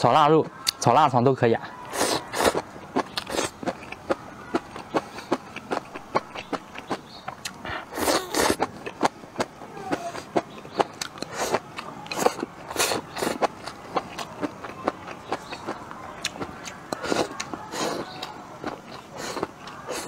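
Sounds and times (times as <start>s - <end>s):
crunchy chewing: 1.9s - 20.0s
slurping: 1.9s - 20.0s.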